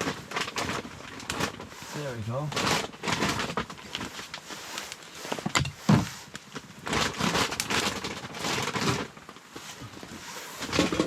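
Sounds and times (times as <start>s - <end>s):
firewood scraping and rustling: 0.0s - 11.0s.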